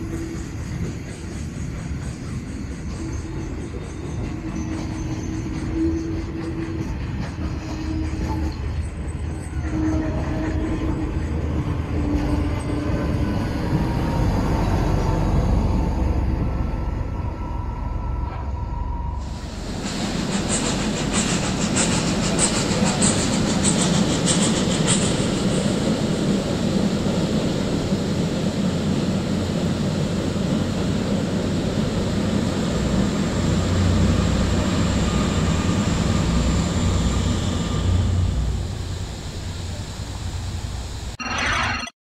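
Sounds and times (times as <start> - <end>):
train carriages rumbling and rattling: 0.0 - 41.1.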